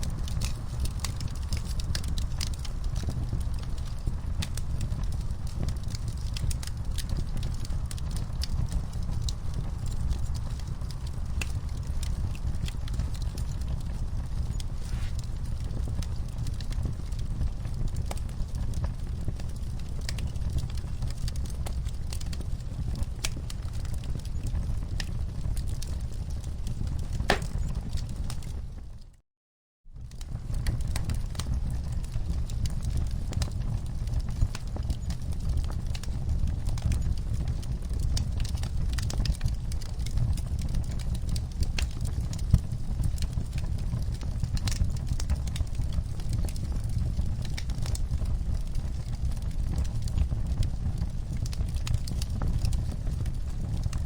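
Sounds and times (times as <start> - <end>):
wood fire crackling: 0.0 - 29.0, 30.0 - 54.0.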